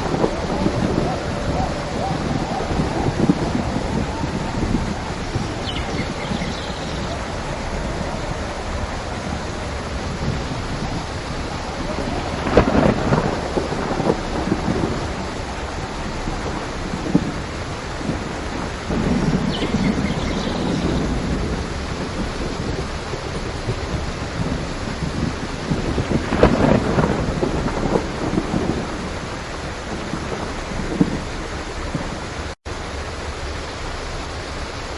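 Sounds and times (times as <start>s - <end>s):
thunder crack and rumble: 0.0s - 32.6s
steady rain: 0.0s - 34.9s.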